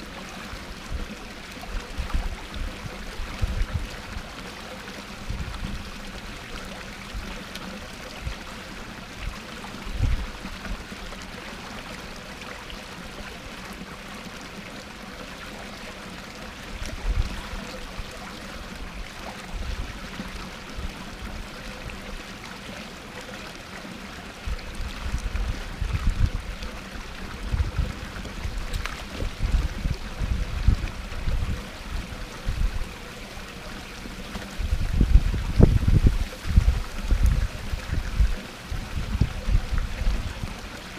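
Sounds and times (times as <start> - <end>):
waterfall splashing into pond: 0.0 - 40.9.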